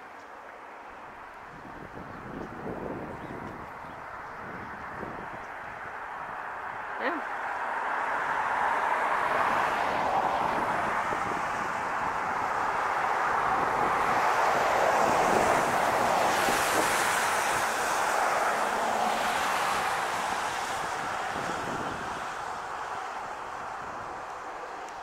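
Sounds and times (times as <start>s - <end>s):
steady outdoor rushing noise: 0.0s - 25.0s.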